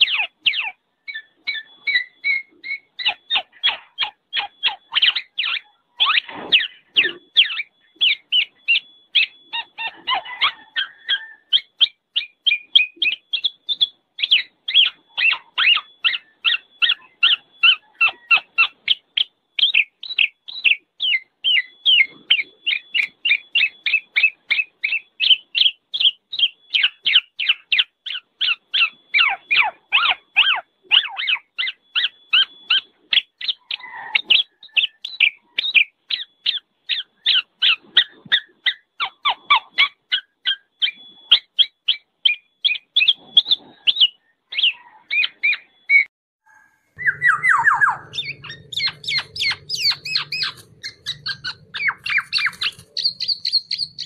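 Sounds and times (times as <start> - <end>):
oriole calling: 0.0 - 54.0.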